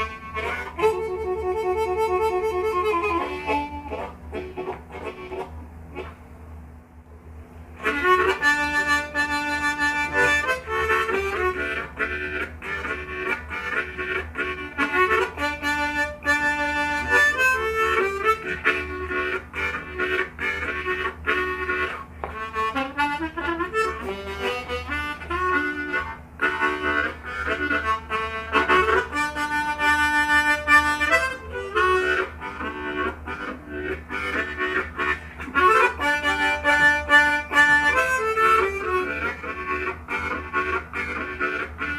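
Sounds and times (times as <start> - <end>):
blues harmonica chugging chords: 0.0 - 6.3, 7.6 - 41.9
steady low hum: 0.0 - 41.9.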